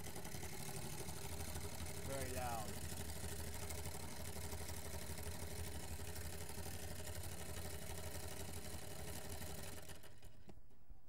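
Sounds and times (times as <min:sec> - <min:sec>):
solenoid engine rattling: 0:00.0 - 0:10.5.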